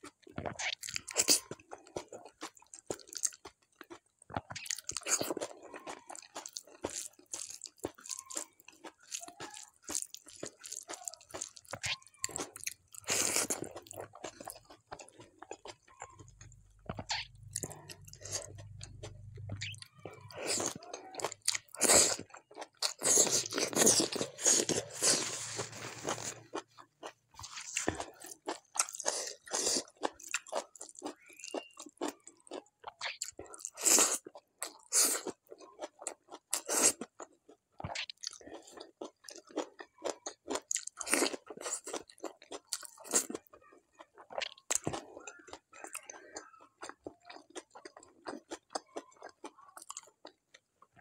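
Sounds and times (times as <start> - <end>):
wet chewing mouth sounds: 0.0 - 51.0.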